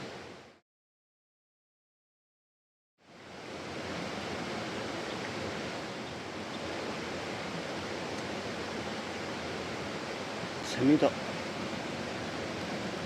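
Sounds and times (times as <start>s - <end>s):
mountain stream rushing: 0.0s - 0.6s, 3.0s - 13.0s.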